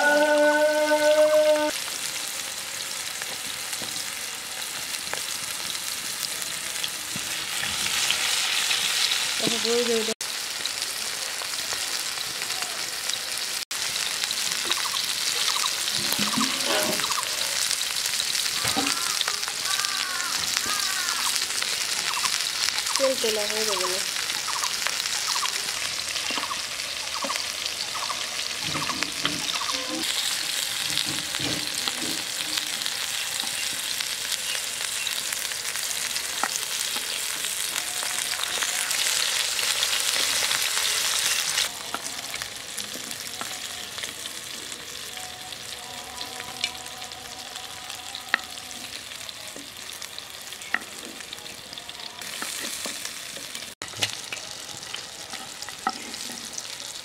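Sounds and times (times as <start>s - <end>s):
fish sizzling in oil: 0.0s - 57.0s.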